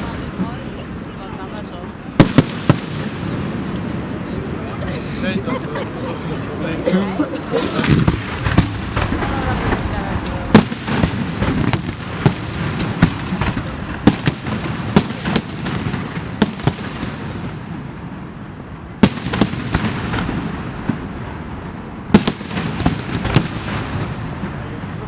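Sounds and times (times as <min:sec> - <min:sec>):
fireworks crackling rumble: 0:00.0 - 0:25.0.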